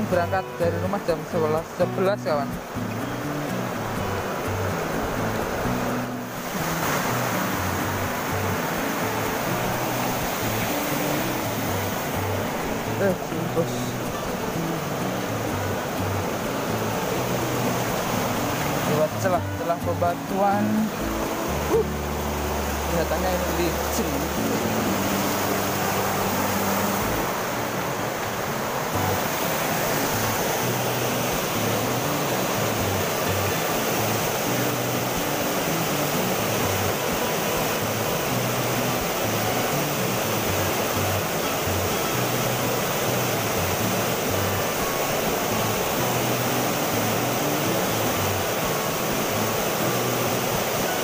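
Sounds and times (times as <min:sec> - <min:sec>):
river water rushing over rocks: 0:00.0 - 0:51.0.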